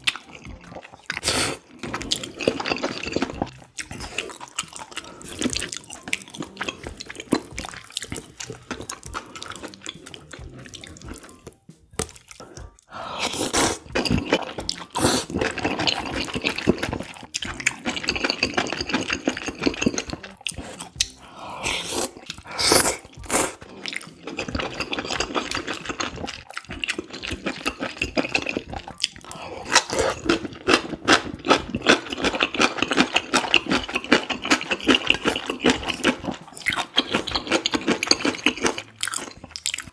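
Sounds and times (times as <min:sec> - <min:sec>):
slurping noodles: 0:00.0 - 0:11.3, 0:12.3 - 0:39.9
wet chewing: 0:00.0 - 0:39.9.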